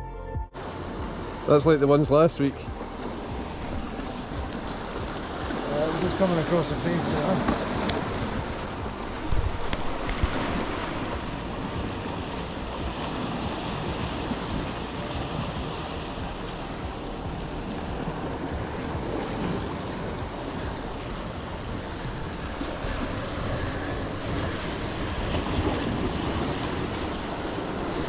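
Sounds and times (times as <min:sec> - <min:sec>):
wind buffeting microphone: 0:00.6 - 0:28.0
surf breaking against rocks: 0:03.0 - 0:16.4, 0:17.4 - 0:28.0.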